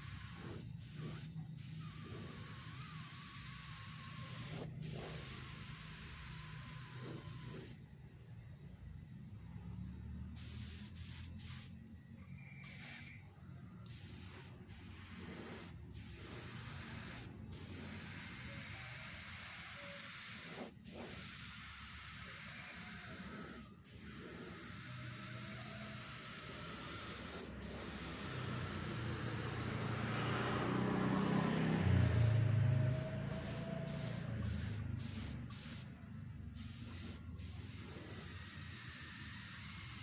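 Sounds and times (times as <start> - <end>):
spray gun hissing: 0.0 - 7.8, 10.3 - 11.8, 12.6 - 13.2, 13.9 - 40.0.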